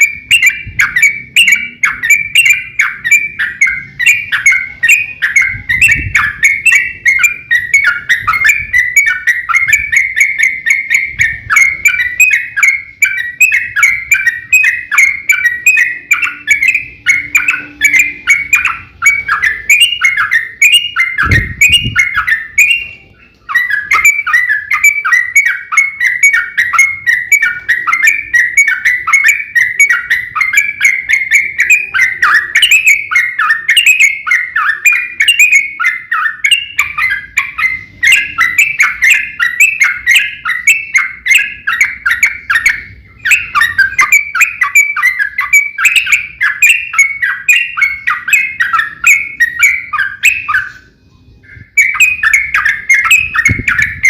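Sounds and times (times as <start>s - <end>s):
bulbul chattering song: 0.0s - 54.0s.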